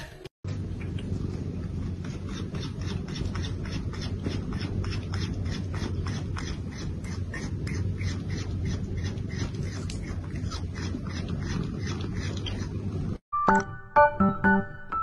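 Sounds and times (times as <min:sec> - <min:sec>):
cat purring: 0:01.0 - 0:13.2.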